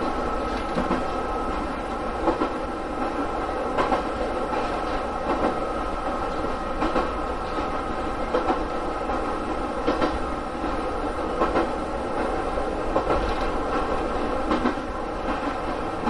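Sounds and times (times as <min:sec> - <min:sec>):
electric train running hum: 0:00.0 - 0:16.0.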